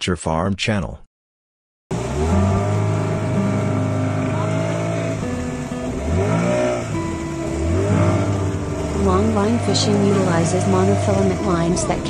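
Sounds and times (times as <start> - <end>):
background music with held notes: 2.0 - 12.0.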